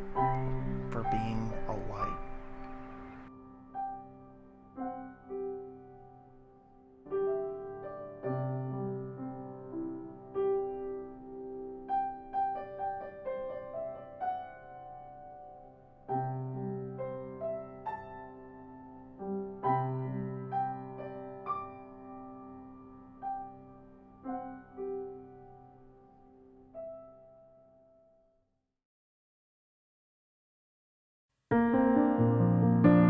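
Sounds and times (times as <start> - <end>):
slow soft piano music: 0.0 - 28.4, 31.5 - 33.0.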